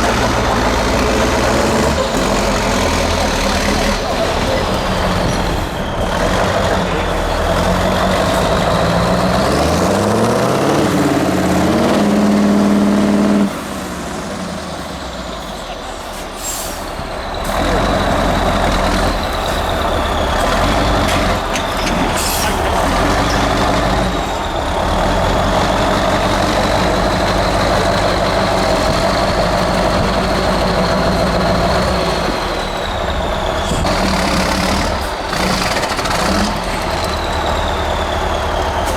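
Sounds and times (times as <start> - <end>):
truck diesel engine revving: 0.0 - 38.9.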